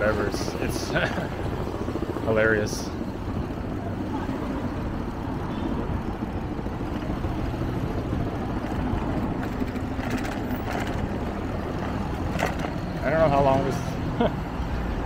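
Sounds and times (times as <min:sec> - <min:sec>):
road traffic rumble: 0:00.0 - 0:15.0
wind: 0:00.0 - 0:15.0.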